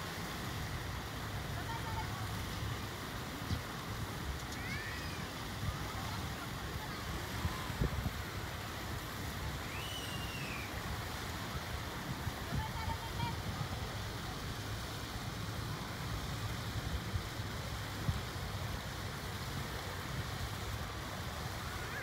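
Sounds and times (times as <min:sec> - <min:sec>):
wind rumbling on microphone: 0:00.4 - 0:22.0.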